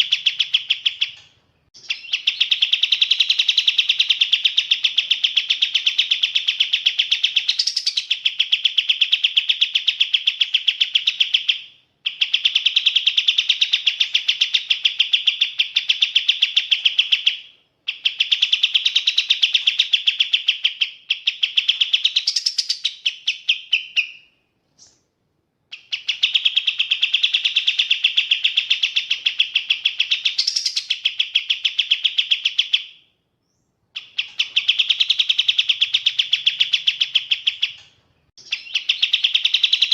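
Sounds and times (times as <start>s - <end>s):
bird singing rapid trills: 0.0s - 25.0s, 25.7s - 39.9s.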